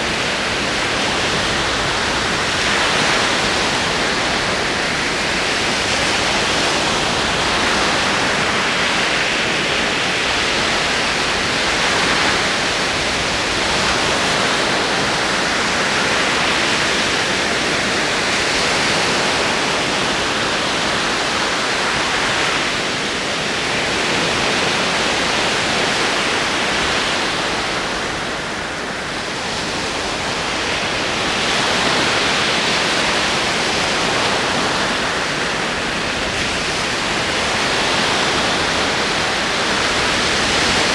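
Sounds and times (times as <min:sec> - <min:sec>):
ocean waves rolling in: 0:00.0 - 0:40.9.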